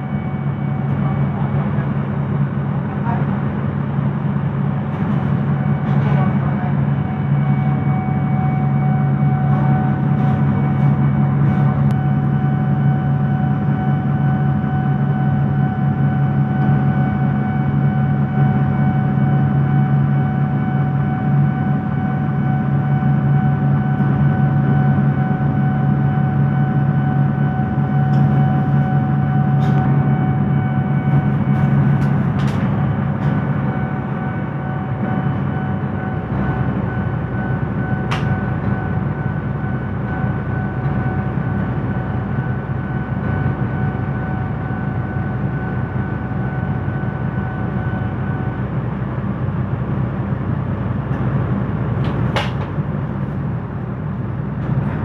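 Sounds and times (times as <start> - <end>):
bus engine drone: 0.0 - 55.0
steady high whine: 0.0 - 55.0.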